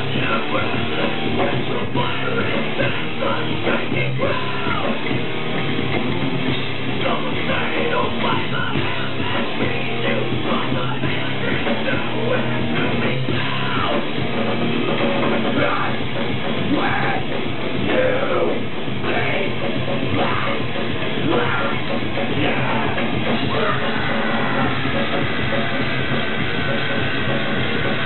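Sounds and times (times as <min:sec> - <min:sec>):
heavy metal band playing live: 0:00.0 - 0:28.0.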